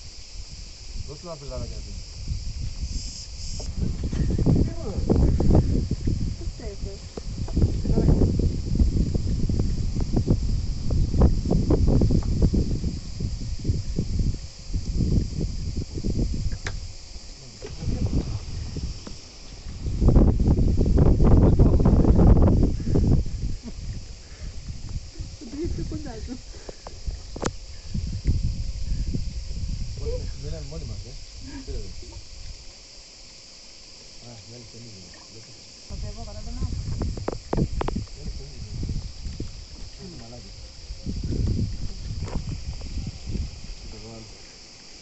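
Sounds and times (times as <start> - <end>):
low rumbling on microphone: 0.0 - 32.6, 35.9 - 44.4
high-pitched insect drone: 0.0 - 45.0.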